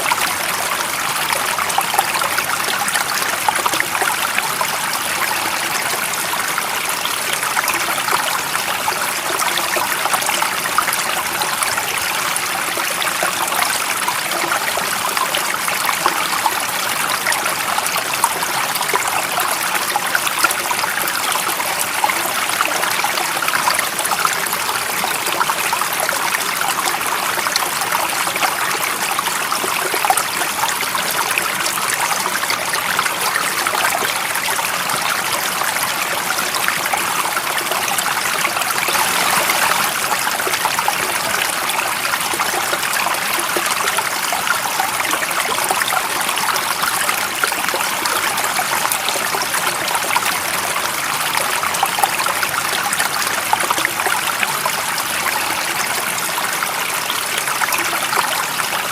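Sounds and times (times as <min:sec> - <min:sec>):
stream of water trickling: 0:00.0 - 0:58.9.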